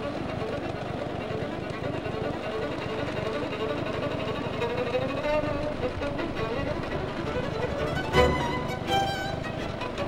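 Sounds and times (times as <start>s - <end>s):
fiddle music: 0.0s - 10.0s
lawnmower engine drone: 0.0s - 10.0s.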